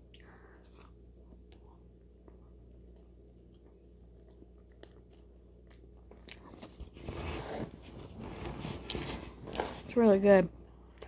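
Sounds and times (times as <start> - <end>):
crunching and chewing: 0.0 - 9.8
low steady hum: 0.0 - 11.0.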